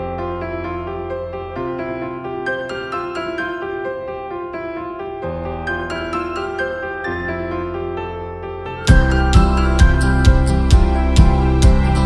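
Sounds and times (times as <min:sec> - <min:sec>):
piano or keyboard music: 0:00.0 - 0:12.0.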